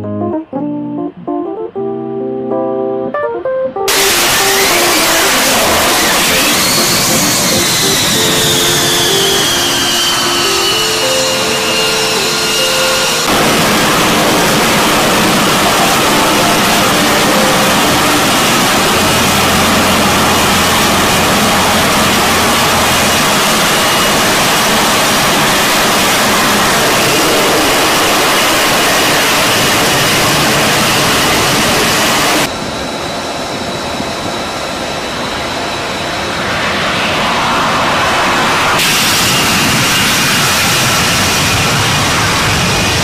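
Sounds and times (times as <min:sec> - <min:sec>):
jet engine roar: 0:03.9 - 0:43.0.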